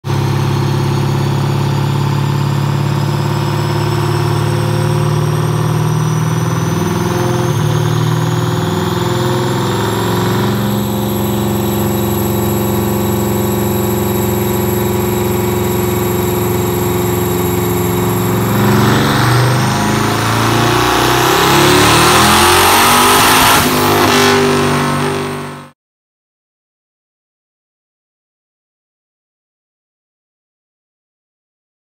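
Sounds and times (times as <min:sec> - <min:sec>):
car engine on a dyno: 0:00.0 - 0:25.8
turbo whine rising in pitch: 0:00.1 - 0:25.7.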